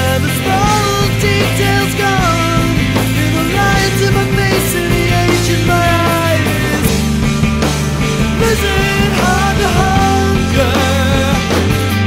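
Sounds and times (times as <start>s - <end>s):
punk rock band playing: 0.0s - 12.0s.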